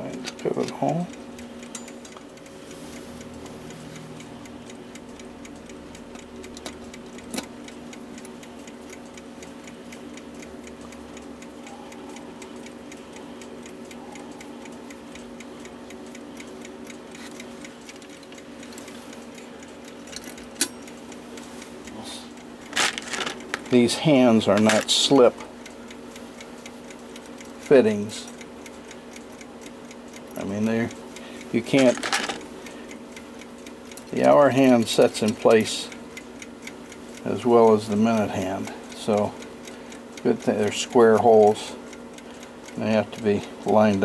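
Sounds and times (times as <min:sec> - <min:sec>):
clock ticking: 0:00.0 - 0:44.0
steady hum: 0:00.0 - 0:44.0.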